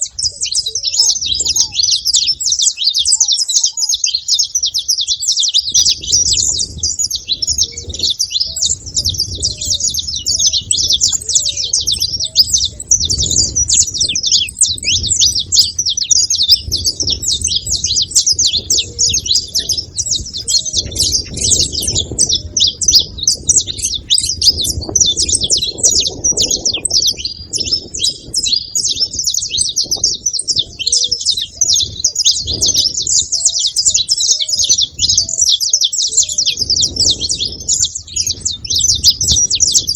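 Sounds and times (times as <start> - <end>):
finch chirping and trilling: 0.0 - 39.9.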